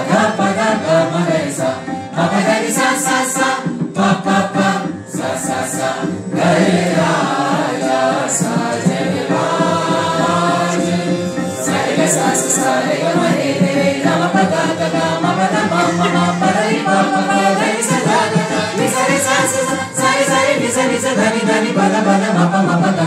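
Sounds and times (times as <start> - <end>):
harmonium: 0.0 - 23.0
men and women singing together: 0.0 - 23.0.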